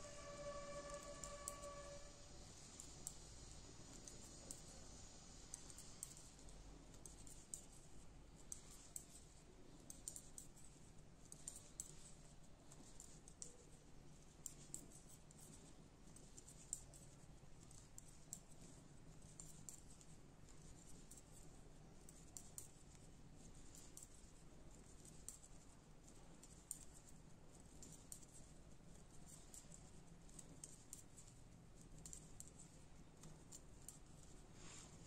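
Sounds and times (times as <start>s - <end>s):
faint low room hum: 0.0s - 35.0s
knitting needles clicking: 0.1s - 2.0s, 2.6s - 35.0s.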